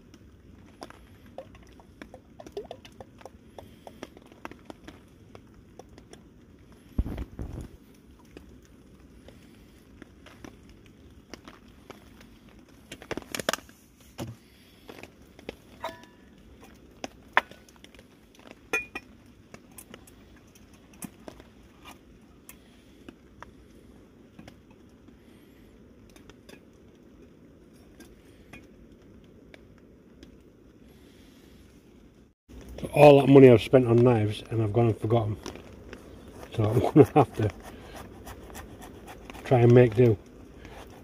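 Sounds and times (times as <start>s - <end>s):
low steady background hiss: 0.0s - 41.0s.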